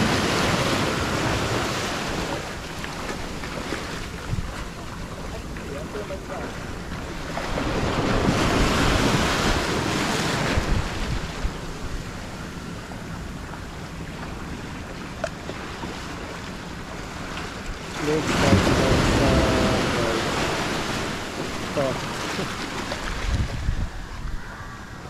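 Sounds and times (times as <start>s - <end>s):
ocean surf washing onto beach: 0.0s - 25.0s
wind rumbling on microphone: 0.0s - 25.0s.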